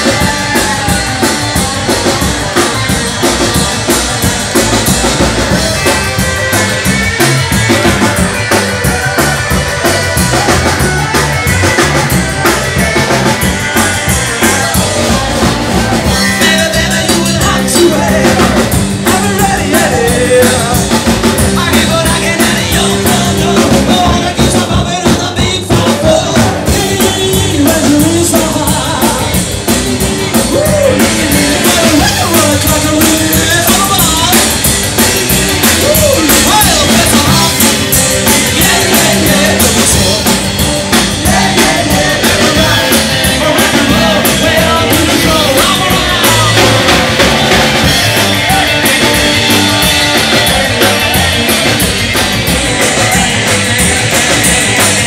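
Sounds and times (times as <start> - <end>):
person singing: 0.0 - 34.7, 35.6 - 55.0
drum kit: 0.0 - 55.0
electric guitar: 0.0 - 55.0.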